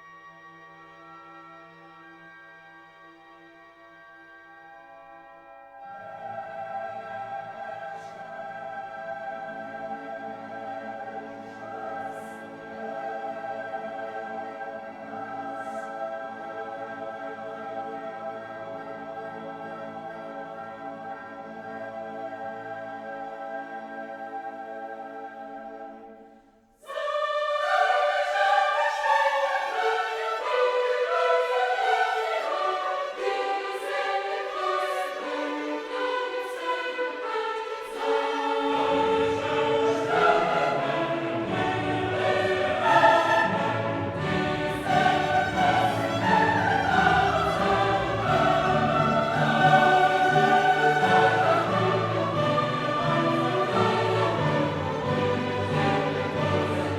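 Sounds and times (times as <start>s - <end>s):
choral music with orchestra: 0.0s - 56.9s.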